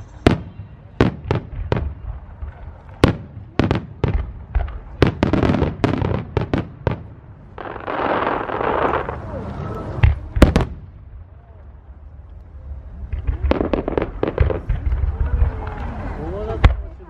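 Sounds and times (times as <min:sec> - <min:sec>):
fireworks bangs: 0:00.0 - 0:11.6, 0:12.9 - 0:17.0
fireworks crackling: 0:00.0 - 0:17.0.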